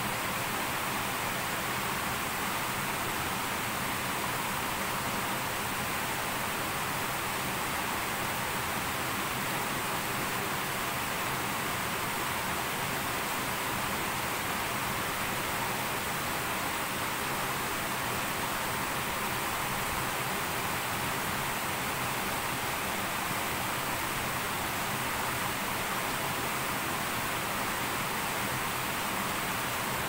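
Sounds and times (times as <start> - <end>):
stream pouring over rock ledges: 0.1 - 30.0.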